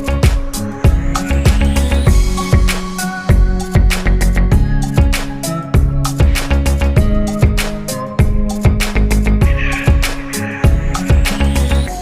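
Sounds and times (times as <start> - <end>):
music with beat bass and guitar: 0.0 - 12.0.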